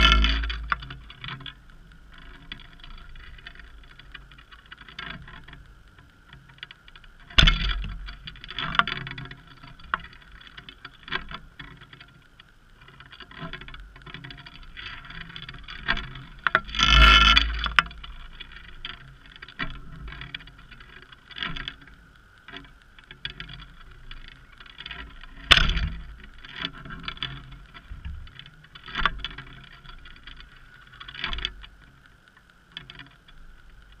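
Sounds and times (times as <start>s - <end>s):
muffled underwater knocks and clicks: 0.0s - 12.2s, 12.8s - 32.0s
faint steady hum: 0.0s - 34.0s.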